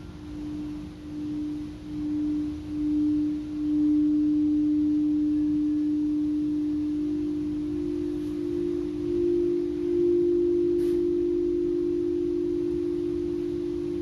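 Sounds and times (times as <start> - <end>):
higher singing bowl tone: 0.0 - 14.0
singing bowl low tone: 0.0 - 14.0.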